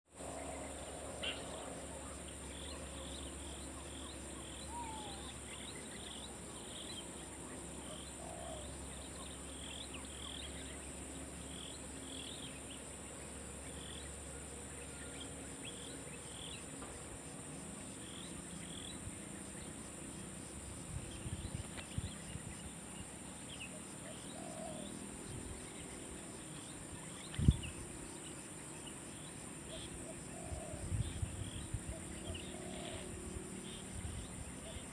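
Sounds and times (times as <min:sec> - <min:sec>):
insect chirps: 0:00.1 - 0:34.9
insect chorus drone: 0:00.1 - 0:34.9.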